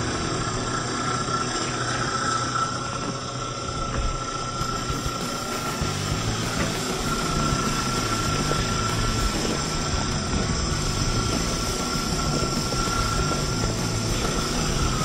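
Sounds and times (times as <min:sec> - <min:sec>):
continuous rushing noise: 0:00.0 - 0:15.0
toy car motor whining: 0:00.0 - 0:15.0.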